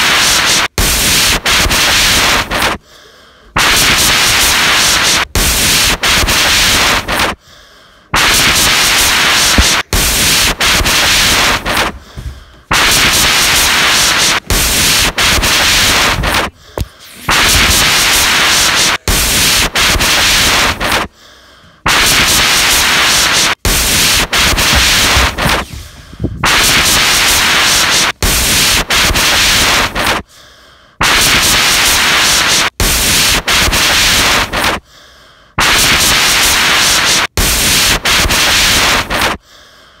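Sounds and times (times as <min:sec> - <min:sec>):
loud static hiss: 0:00.0 - 0:02.8, 0:03.5 - 0:07.4, 0:08.0 - 0:21.2, 0:21.8 - 0:30.3, 0:31.0 - 0:34.8, 0:35.6 - 0:39.4.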